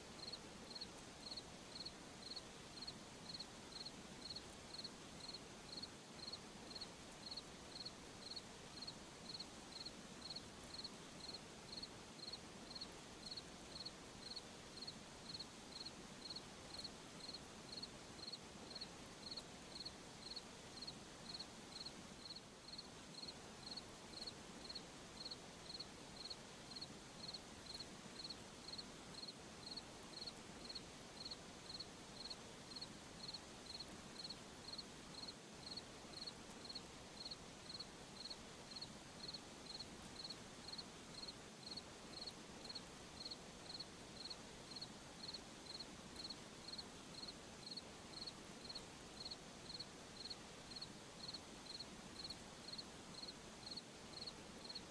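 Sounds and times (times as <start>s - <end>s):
night ambience hiss: 0.0s - 54.9s
cricket chirping: 0.2s - 54.8s.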